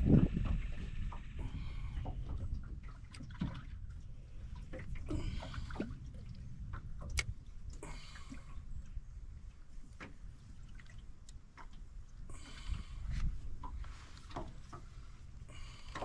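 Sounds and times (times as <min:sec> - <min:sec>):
steady low rumble: 0:00.0 - 0:14.0
water lapping and dripping: 0:00.0 - 0:16.0.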